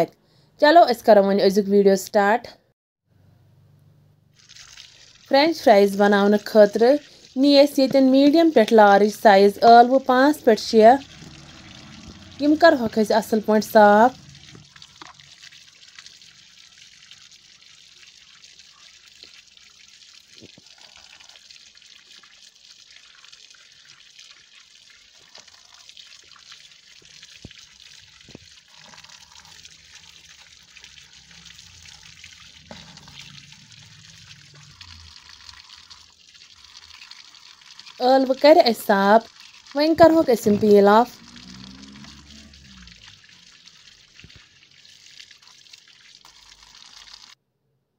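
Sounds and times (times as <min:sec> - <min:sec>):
running water splashing: 0:04.3 - 0:47.4
water dripping: 0:04.3 - 0:47.4.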